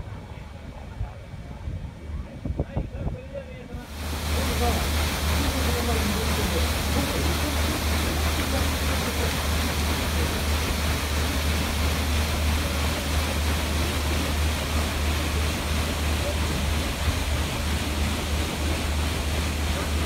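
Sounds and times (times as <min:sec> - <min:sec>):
paddlewheel churning water: 0:03.8 - 0:20.0.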